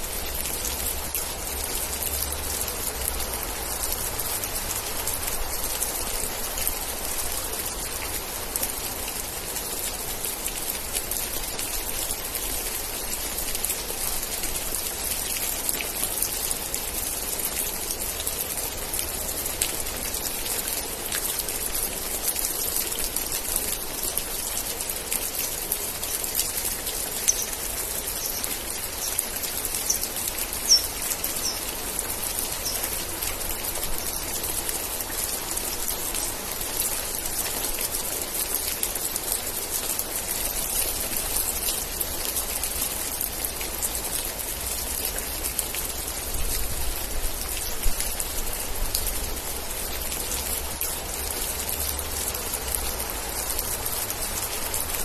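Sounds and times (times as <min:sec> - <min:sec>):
rain with drops ticking: 0:00.0 - 0:55.0.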